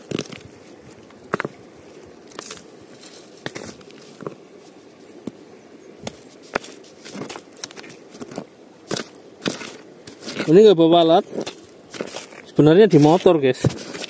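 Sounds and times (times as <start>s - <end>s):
hand scraping through gravel: 0.0s - 5.4s, 6.1s - 14.0s.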